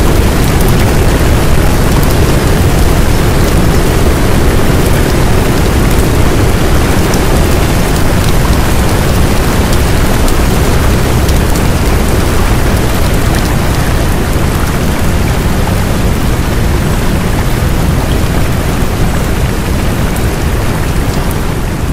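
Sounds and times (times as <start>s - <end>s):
heavy rain hissing: 0.0s - 21.9s.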